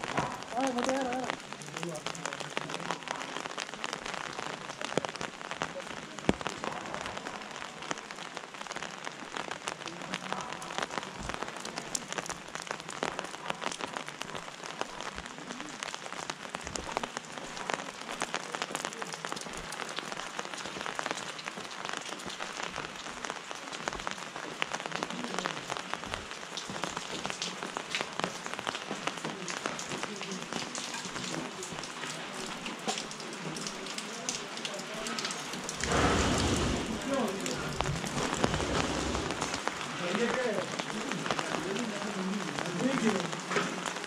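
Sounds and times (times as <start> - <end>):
rain drumming on umbrella: 0.0 - 44.0.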